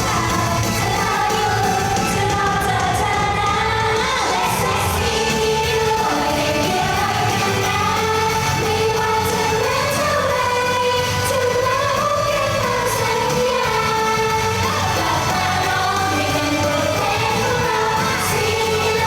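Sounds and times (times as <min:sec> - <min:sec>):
backing band: 0:00.0 - 0:19.0
women singing: 0:00.0 - 0:19.0.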